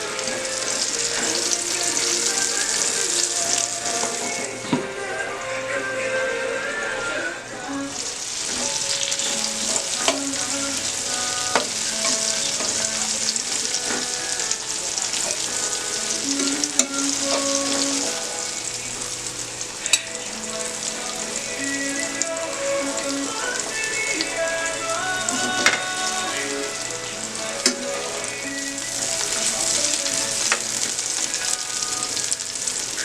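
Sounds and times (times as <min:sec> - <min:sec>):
pork sizzling in hot oil: 0:00.0 - 0:04.8, 0:07.8 - 0:33.0.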